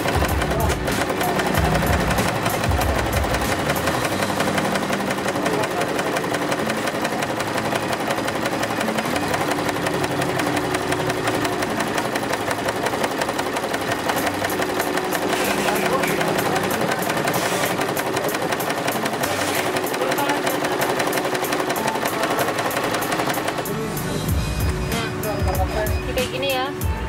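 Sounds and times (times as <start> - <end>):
sewing machine running: 0.0 - 26.9.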